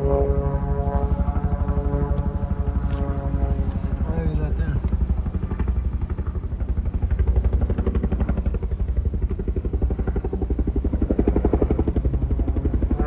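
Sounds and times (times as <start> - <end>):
propeller airplane engine droning: 0.0 - 13.0.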